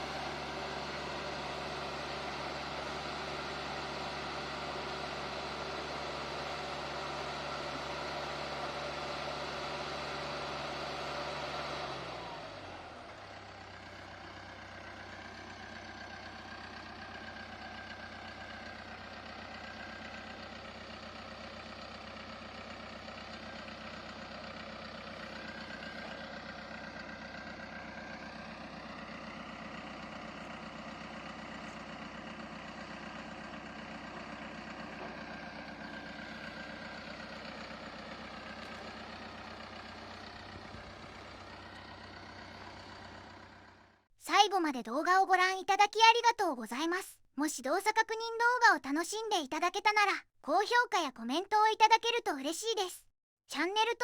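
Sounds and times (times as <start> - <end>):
bulldozer diesel engine: 0.0 - 46.9.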